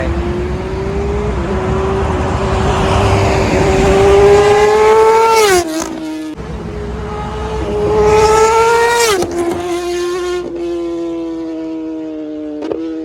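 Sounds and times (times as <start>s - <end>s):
motorcycle engine passing at high revs: 0.0s - 13.0s.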